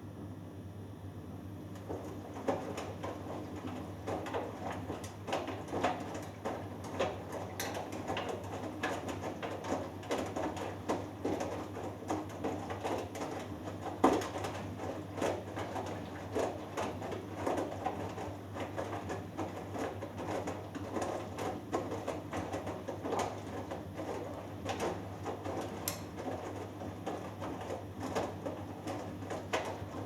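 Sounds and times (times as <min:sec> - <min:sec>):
washing machine motor hum: 0:00.0 - 0:30.0
laundry sloshing and thudding in drum: 0:01.6 - 0:30.0.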